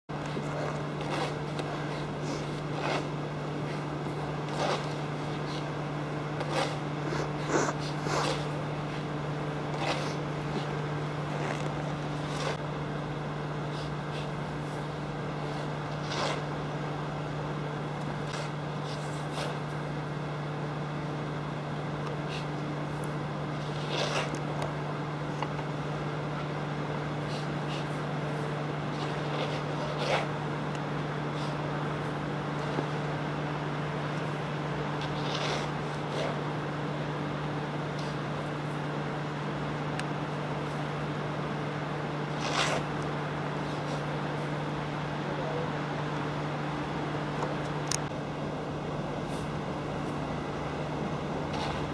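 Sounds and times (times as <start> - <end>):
low hum: 0.1 - 51.9.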